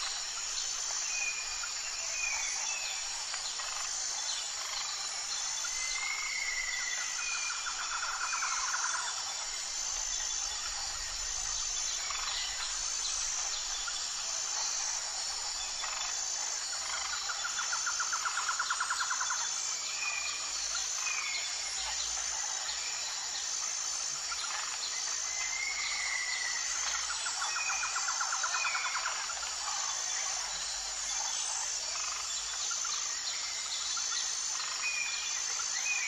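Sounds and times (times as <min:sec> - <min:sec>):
pulsing insect chorus: 0:00.0 - 0:36.0.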